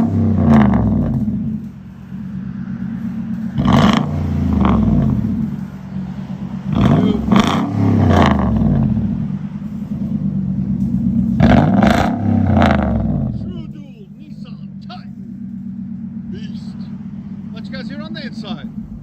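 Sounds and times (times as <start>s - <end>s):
truck engine idling and revving: 0.0s - 19.0s.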